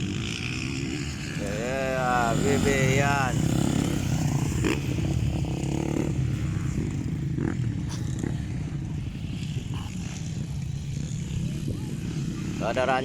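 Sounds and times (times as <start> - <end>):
motocross bike engines droning: 0.0 - 13.0.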